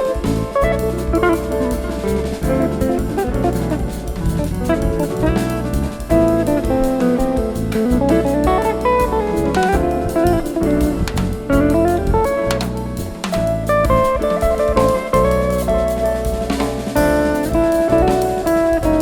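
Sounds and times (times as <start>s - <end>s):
double bass: 0.0s - 19.0s
drum kit: 0.0s - 19.0s
keyboards: 0.0s - 19.0s
plucked guitar melody: 0.0s - 19.0s.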